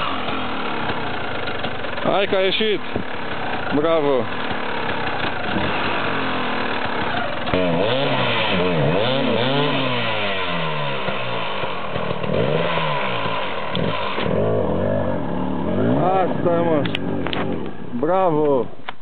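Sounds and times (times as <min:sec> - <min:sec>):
motorcycle engine revving: 0:00.0 - 0:18.5.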